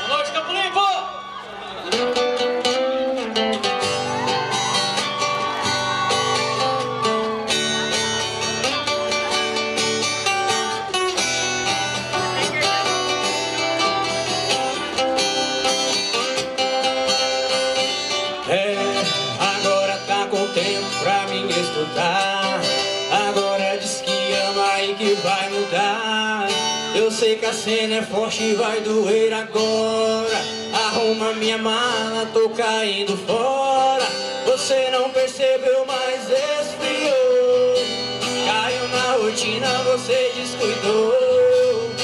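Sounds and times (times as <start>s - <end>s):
strummed acoustic guitars: 1.6s - 42.0s.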